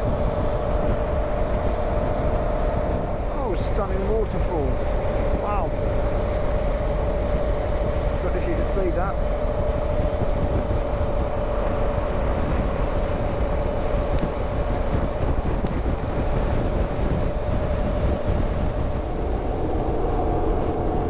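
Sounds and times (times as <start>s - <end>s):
motorcycle engine droning: 0.0s - 21.0s
wind and road noise: 0.0s - 21.0s.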